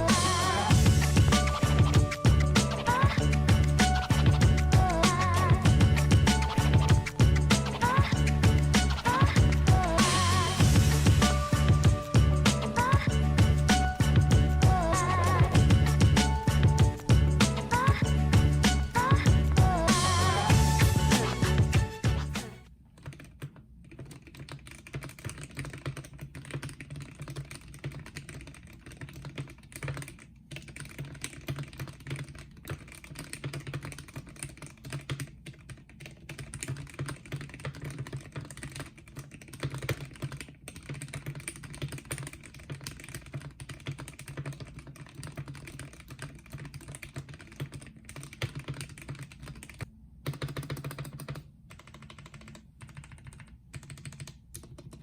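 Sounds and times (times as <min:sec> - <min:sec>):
fast mechanical keyboard typing: 0:00.0 - 0:19.4, 0:22.9 - 0:55.0.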